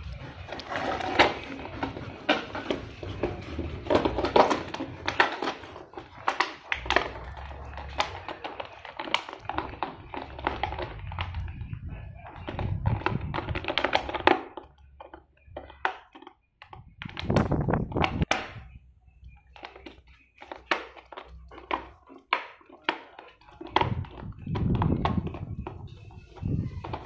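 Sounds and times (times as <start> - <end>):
dog chewing plastic bottle: 0.0 - 27.0.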